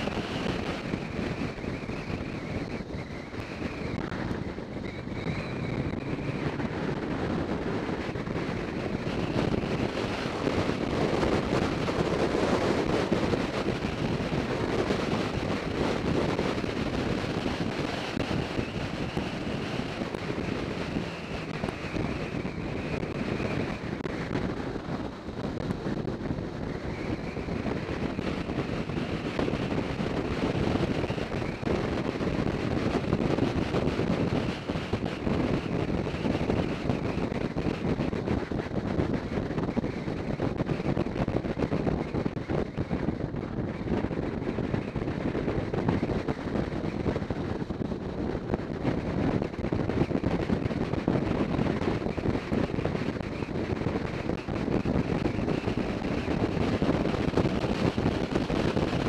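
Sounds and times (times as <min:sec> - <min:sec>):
road noise: 0:00.0 - 0:59.0
wind rush on microphone: 0:00.0 - 0:59.0.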